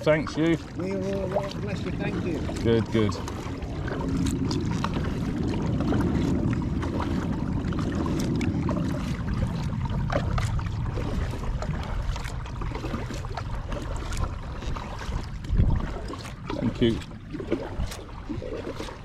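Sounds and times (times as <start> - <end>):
low rumble: 0.0 - 19.0
paddle splashes and drips: 0.0 - 19.0.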